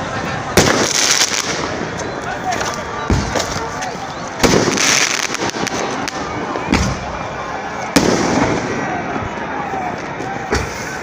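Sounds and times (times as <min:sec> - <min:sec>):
firecrackers crackling: 0:00.0 - 0:11.0
loud fireworks bangs: 0:00.4 - 0:11.0.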